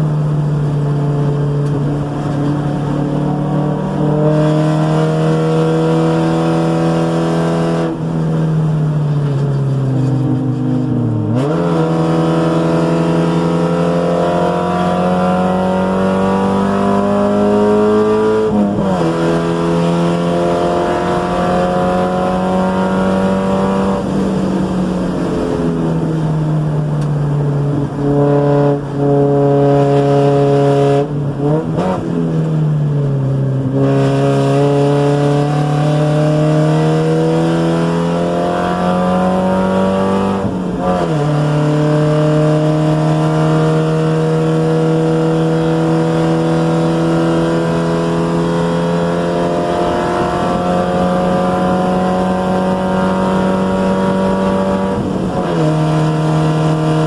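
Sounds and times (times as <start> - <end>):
car engine driving: 0.0 - 57.0.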